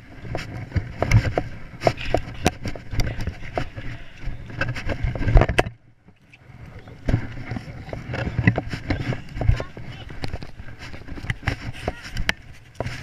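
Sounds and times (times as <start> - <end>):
camera handling knocks and rubbing: 0.3 - 5.8, 7.0 - 13.0.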